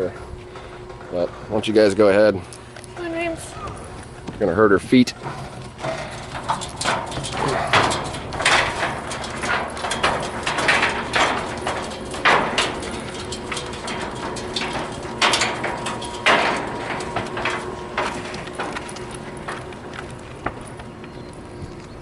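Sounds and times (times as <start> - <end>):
footsteps on metal gangway: 0.0 - 22.0.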